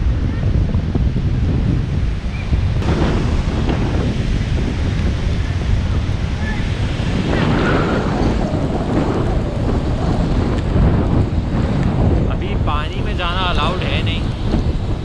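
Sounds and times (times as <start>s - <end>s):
wind buffeting microphone: 0.0s - 15.0s
sea waves washing onto beach: 0.8s - 15.0s.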